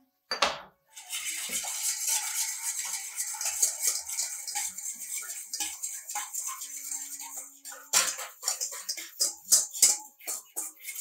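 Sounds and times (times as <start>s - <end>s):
whisk clicking in a metal bowl: 1.0s - 11.0s.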